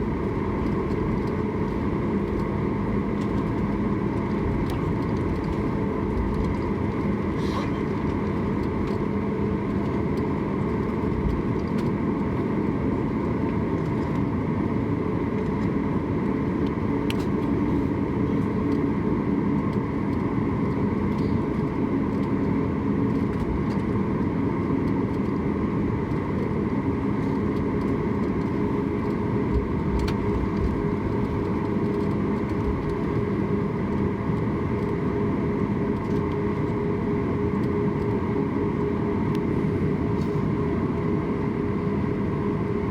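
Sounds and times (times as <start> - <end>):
aircraft cabin engine rumble: 0.0 - 42.9.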